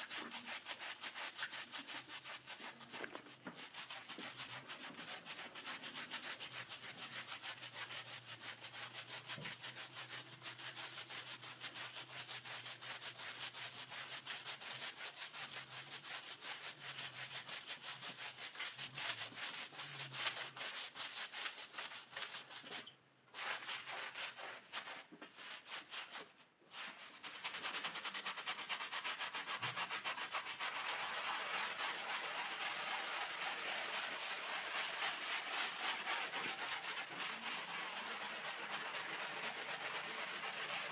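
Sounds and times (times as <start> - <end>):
brushes scrubbing wet rug: 0.0 - 40.9.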